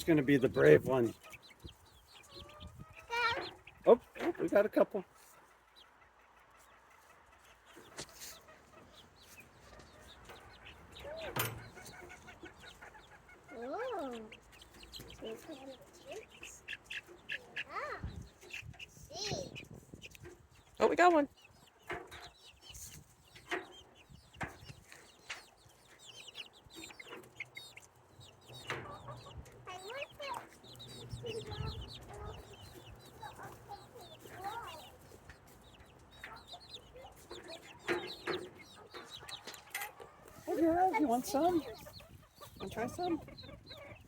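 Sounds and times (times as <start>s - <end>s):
high chirping calls: 0.0s - 4.6s, 7.4s - 44.0s
hens clucking: 0.0s - 44.0s.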